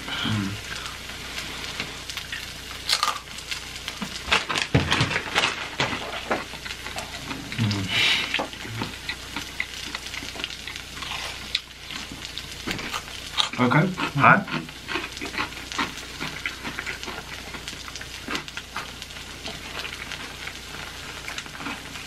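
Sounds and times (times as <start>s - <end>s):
cheese sizzling on griddle: 0.0s - 22.0s
chips crunching and chewing: 2.2s - 22.0s.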